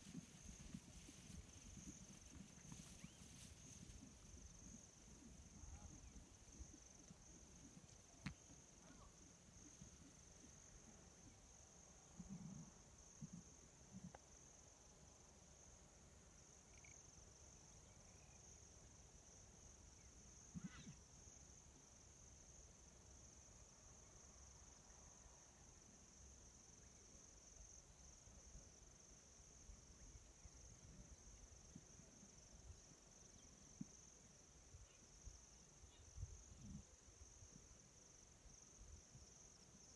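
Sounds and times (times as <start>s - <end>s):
insects chirping in grass: 0.0s - 39.9s.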